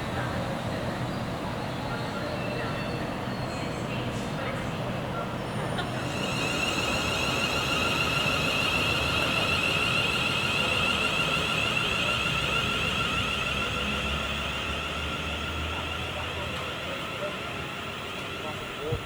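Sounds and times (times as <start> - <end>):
train high-pitched whine: 0.0 - 19.0.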